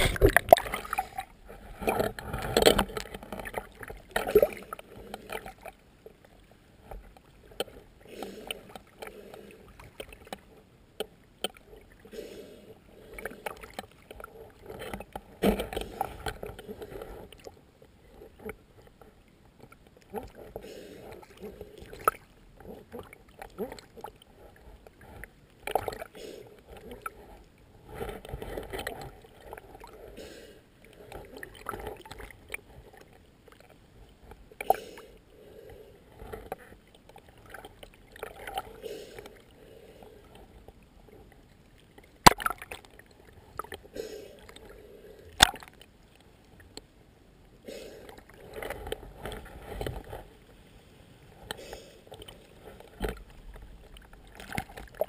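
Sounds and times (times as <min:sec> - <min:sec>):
water lapping around boat: 0:00.0 - 0:55.0.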